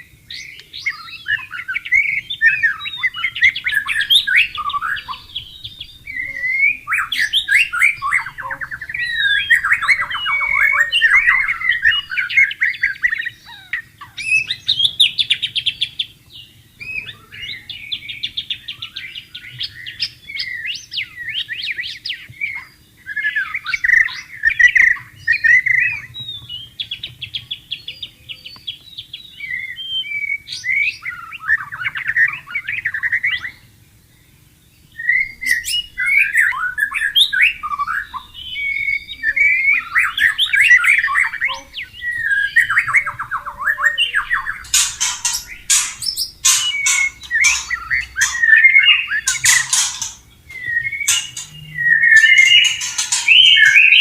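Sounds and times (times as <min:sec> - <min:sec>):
songbird whistling and trilling: 0:00.0 - 0:54.0.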